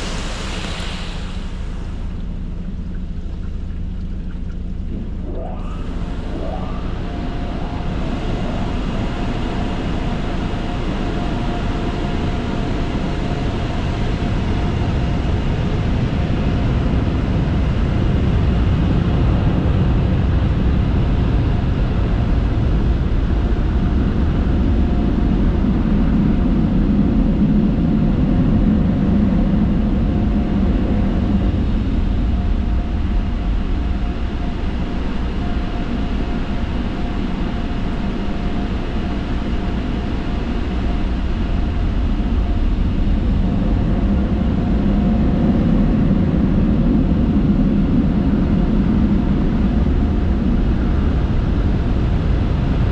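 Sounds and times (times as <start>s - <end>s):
car wash machinery roaring: 0.0s - 52.9s
constant hum: 0.0s - 52.9s.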